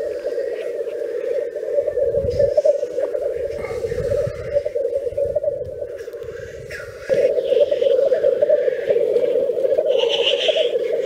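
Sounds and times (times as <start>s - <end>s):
grouse bubbling display song: 0.0s - 11.0s.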